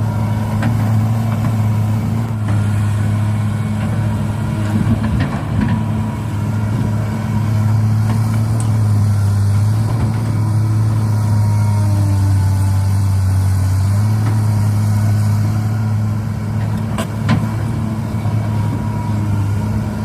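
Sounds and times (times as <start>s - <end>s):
diesel engine idling hum: 0.0s - 20.0s.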